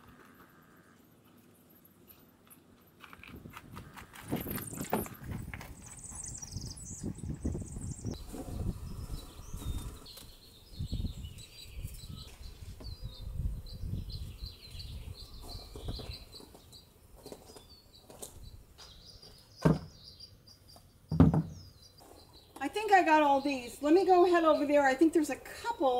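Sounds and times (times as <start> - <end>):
small birds chirping: 3.8 - 25.9.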